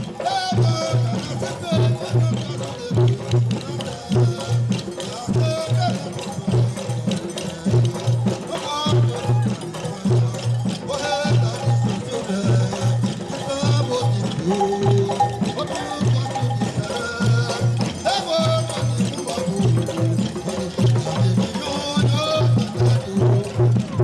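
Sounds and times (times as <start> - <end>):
low drum beating: 0.0 - 24.0.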